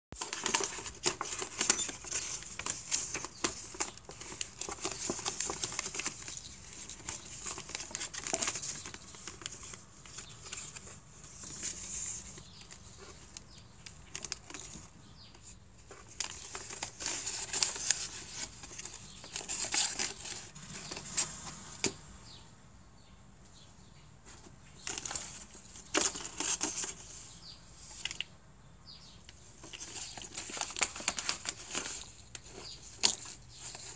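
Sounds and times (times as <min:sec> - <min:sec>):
tissue paper and cardboard rustling: 0:00.1 - 0:22.0, 0:24.2 - 0:28.2, 0:29.4 - 0:33.9.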